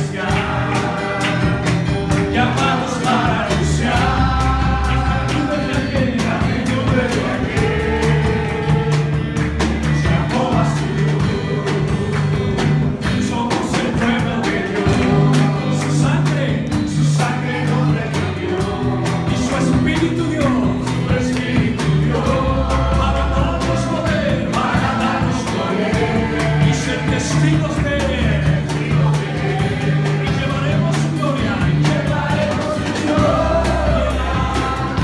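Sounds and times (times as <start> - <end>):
congregation singing: 0.0 - 35.0
drum kit with cymbals: 0.0 - 35.0.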